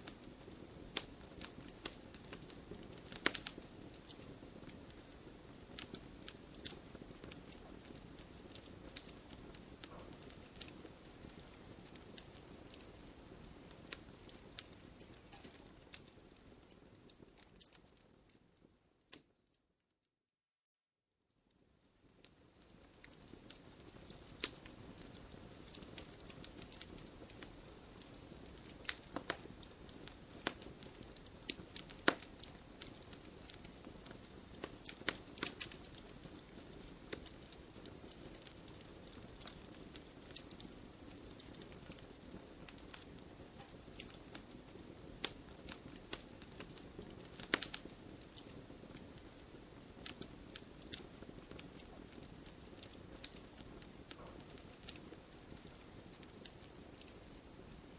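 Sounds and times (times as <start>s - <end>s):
campfire crackling: 0.0s - 19.4s, 21.5s - 57.9s.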